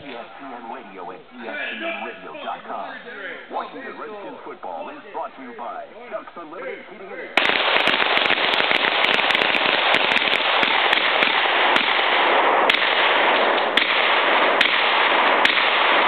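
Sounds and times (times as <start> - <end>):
gunshots: 0.0 - 6.5, 7.4 - 16.0.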